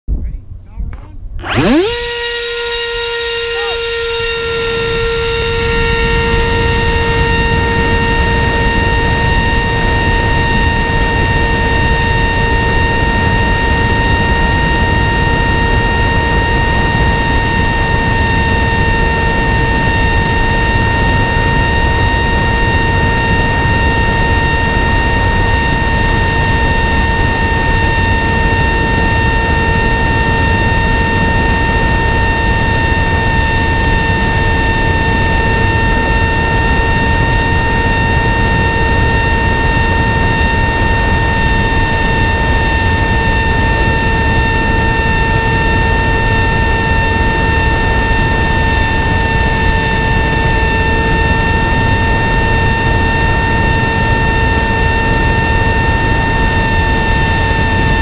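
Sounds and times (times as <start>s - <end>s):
electric motor whine: 1.4s - 58.0s
wind rush on microphone: 4.3s - 58.0s.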